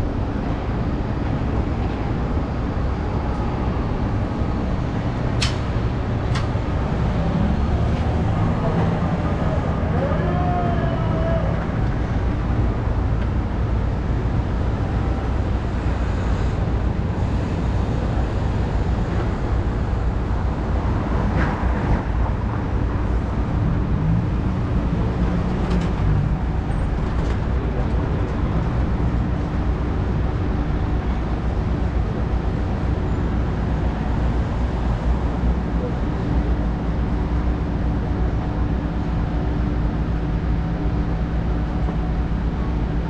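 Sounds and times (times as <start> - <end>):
passing traffic rumble: 0.0 - 43.0.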